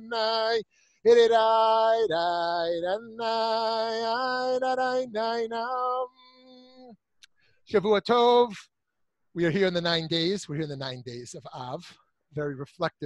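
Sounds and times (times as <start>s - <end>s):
man singing wordless tune: 0.0s - 7.0s, 7.7s - 8.6s, 9.4s - 13.0s.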